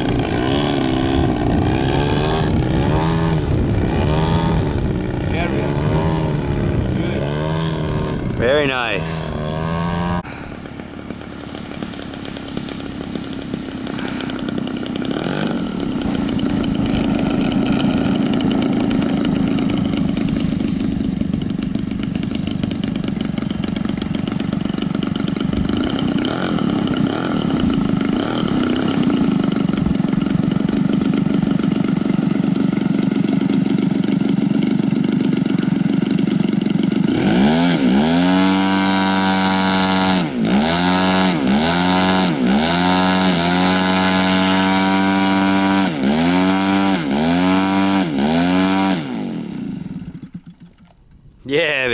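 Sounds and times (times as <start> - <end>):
model aircraft engine whining: 0.0 - 51.9.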